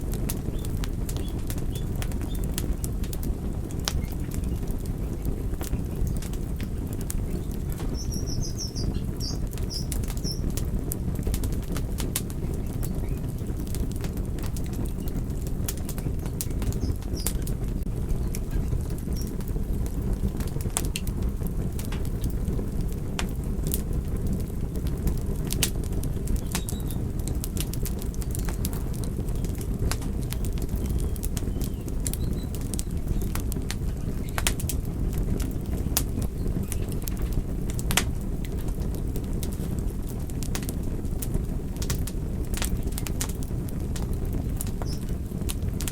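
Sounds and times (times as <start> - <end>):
fire crackles and pops: 0.0 - 45.9
wood fire burning: 0.0 - 45.9.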